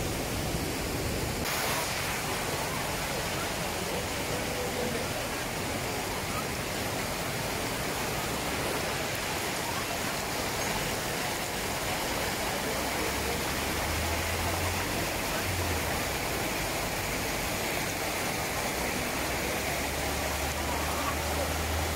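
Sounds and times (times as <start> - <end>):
water rushing over rocks: 0.0 - 21.9.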